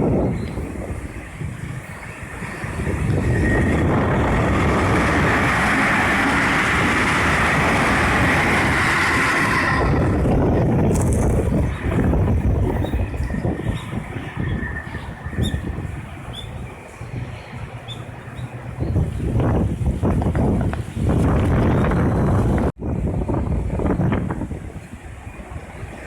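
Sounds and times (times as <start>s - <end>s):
train rushing past: 0.0s - 26.0s.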